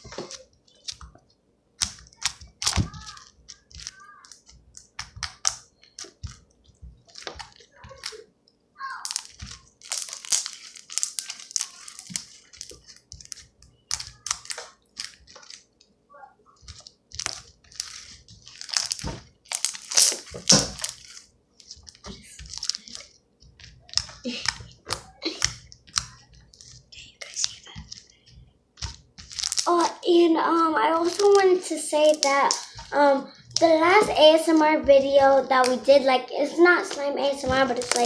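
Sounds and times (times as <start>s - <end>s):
slime squishing by hand: 0.0s - 38.0s.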